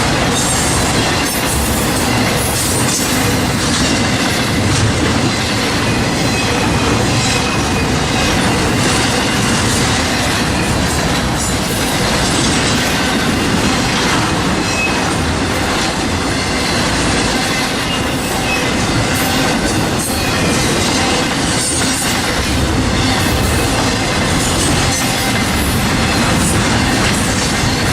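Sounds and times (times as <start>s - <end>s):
train wheels clattering on rails: 0.0s - 27.9s.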